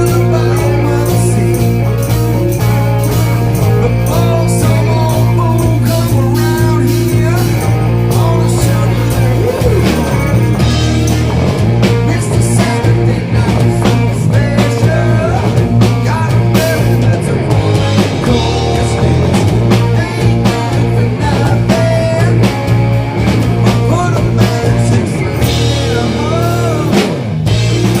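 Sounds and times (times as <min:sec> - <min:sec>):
person singing: 0:00.0 - 0:11.2, 0:11.8 - 0:22.8, 0:23.6 - 0:27.2
rock band playing: 0:00.0 - 0:28.0.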